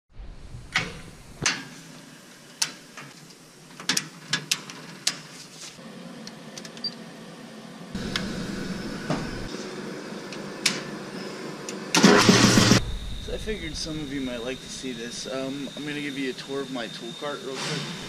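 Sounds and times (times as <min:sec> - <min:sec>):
steady electrical hum: 0:00.2 - 0:04.0, 0:05.3 - 0:11.6, 0:12.3 - 0:18.0.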